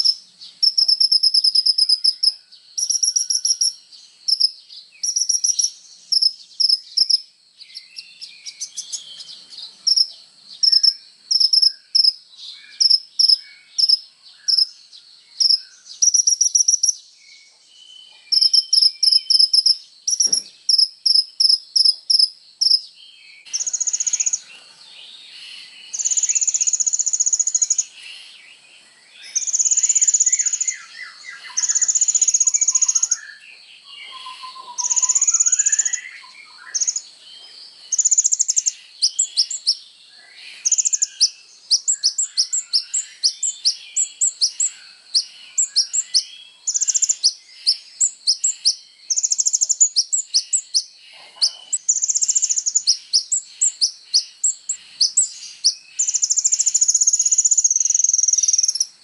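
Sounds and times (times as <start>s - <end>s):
bird singing high trills: 0.0s - 59.0s
soft bird twittering: 0.0s - 59.0s.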